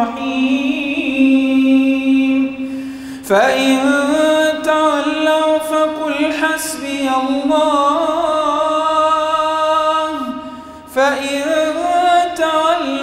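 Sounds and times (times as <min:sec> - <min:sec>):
man chanting recitation: 0:00.0 - 0:02.6, 0:03.2 - 0:13.0.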